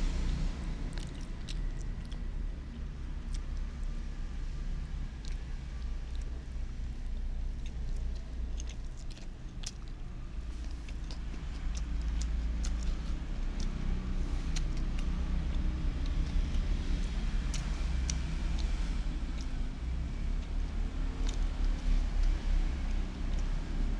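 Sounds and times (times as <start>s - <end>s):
steady low rumble: 0.0s - 23.9s
chewing with mouth clicks: 0.8s - 23.9s.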